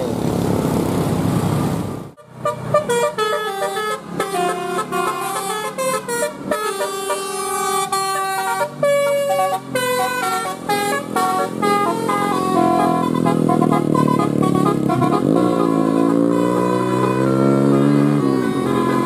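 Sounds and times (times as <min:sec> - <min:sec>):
multi-tone bus horn tune: 0:02.2 - 0:19.0.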